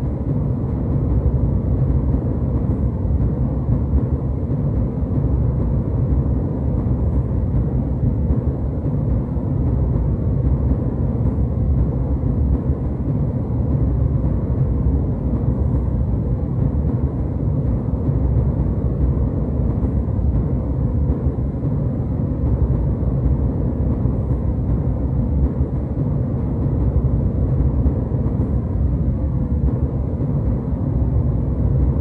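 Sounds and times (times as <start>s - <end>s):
jet airliner cabin rumble: 0.0s - 32.0s.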